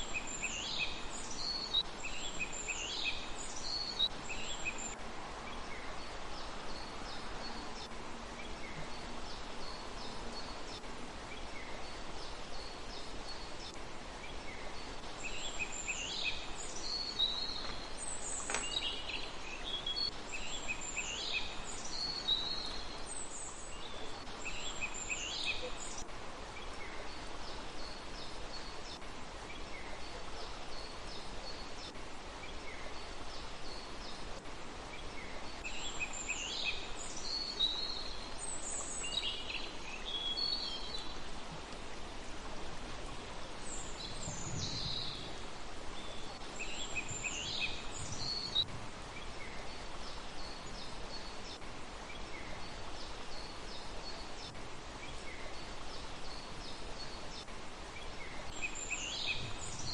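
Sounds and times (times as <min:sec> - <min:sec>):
background hiss: 0:00.0 - 0:59.9
songbirds chirping: 0:00.0 - 0:59.9.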